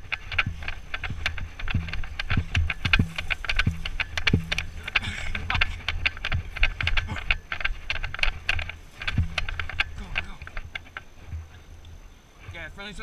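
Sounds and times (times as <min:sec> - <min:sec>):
footsteps running: 0:00.0 - 0:11.7
gear rattling: 0:00.0 - 0:13.0.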